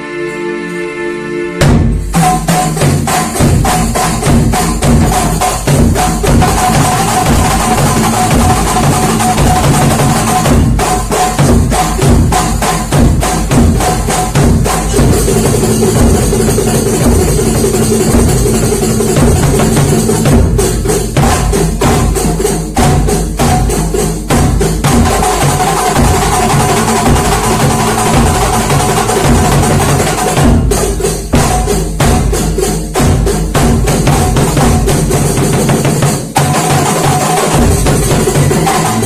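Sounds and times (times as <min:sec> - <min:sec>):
frame drums and hand percussion: 0:01.6 - 0:39.0.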